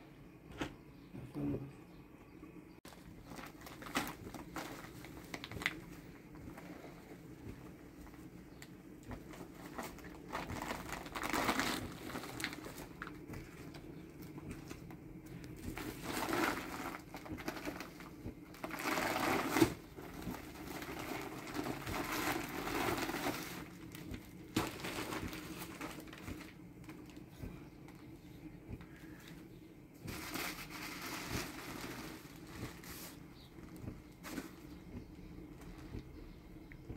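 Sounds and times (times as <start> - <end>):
plastic sack rustling: 2.9 - 28.1, 30.0 - 36.3.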